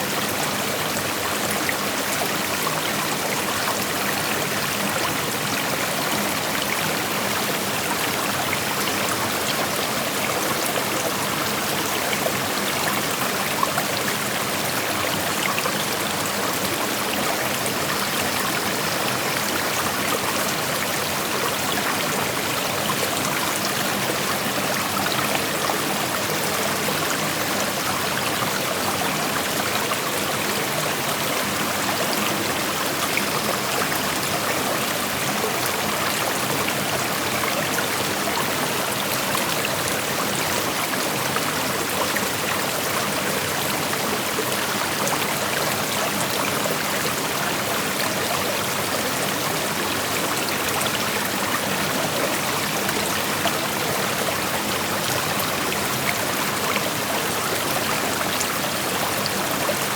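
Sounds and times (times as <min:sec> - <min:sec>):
creek flowing over rocks: 0:00.0 - 0:59.9.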